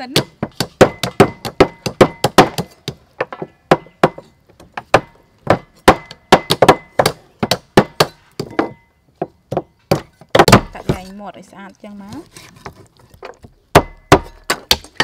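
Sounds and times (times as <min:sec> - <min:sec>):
cleavers chopping on wooden blocks: 0:00.0 - 0:11.1, 0:12.4 - 0:15.0.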